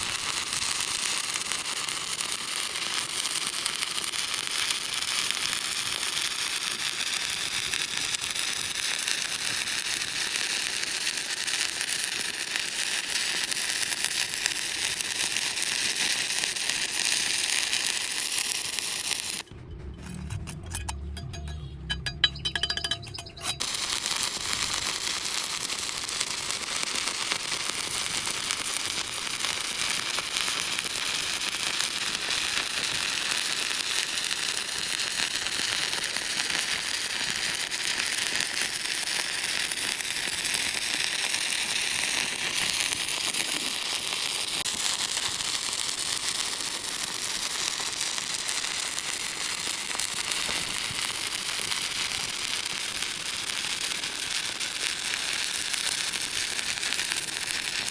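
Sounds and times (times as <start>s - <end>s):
welding arc crackling and sizzling: 0.0s - 57.9s.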